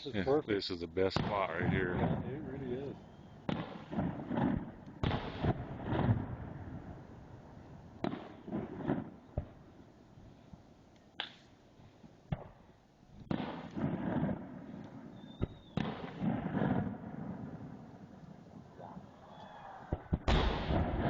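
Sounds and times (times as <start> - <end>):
fireworks booming with echoes: 1.0 - 9.9, 12.2 - 19.2, 19.8 - 21.0.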